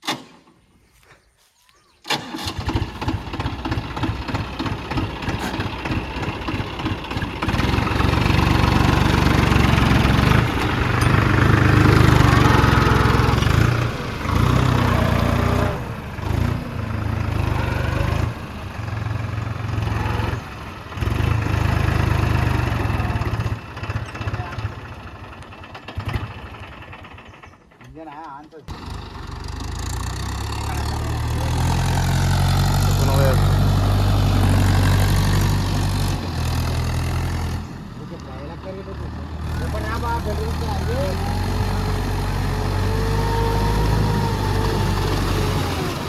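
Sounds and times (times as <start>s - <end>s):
tractor diesel engine running: 2.0s - 46.0s.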